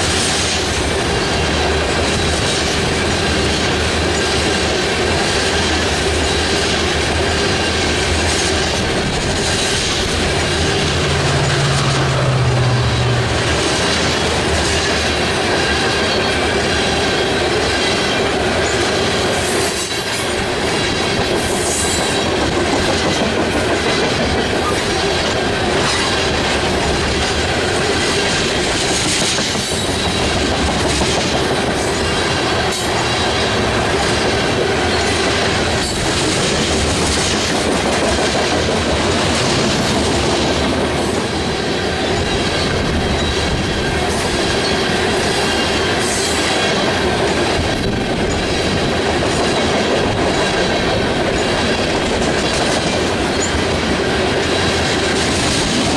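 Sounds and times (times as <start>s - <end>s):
train wheels clacking on rails: 0.0s - 55.9s.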